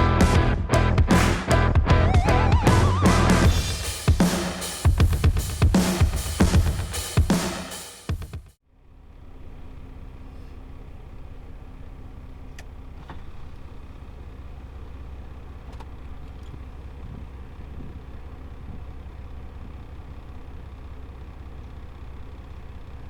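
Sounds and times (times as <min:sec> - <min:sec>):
diesel truck engine droning: 0:00.0 - 0:04.2, 0:08.6 - 0:23.0.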